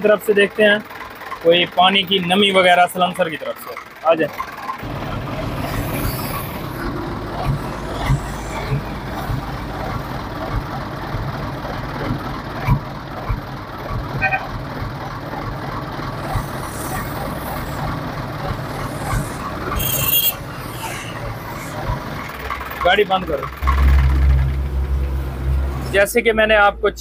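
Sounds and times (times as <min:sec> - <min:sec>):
diesel truck engine idling: 0:00.0 - 0:27.0.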